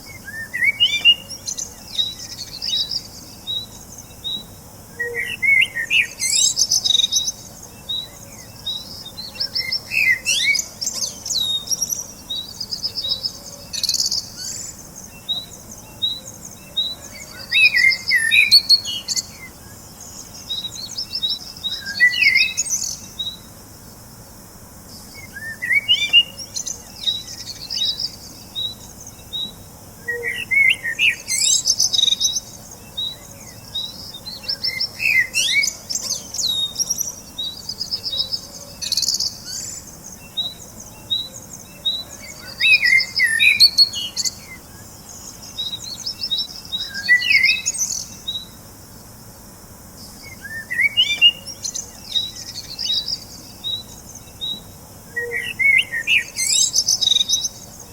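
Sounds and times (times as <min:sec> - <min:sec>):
warbling bird song: 0:00.0 - 0:24.1, 0:24.8 - 0:57.9.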